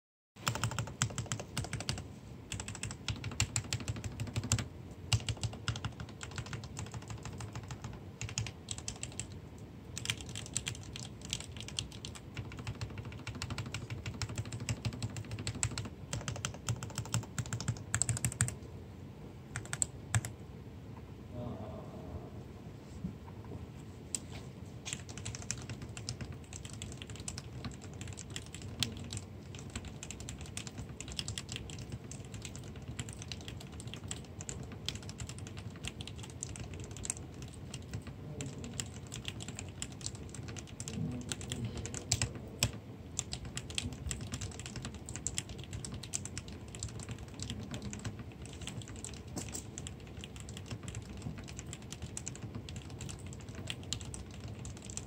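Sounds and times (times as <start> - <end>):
mechanical keyboard typing: 0.4 - 18.6, 19.5 - 20.3, 24.9 - 55.0.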